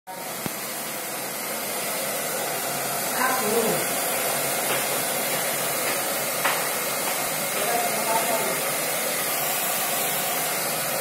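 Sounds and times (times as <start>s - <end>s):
hair dryer running: 0.1s - 11.0s.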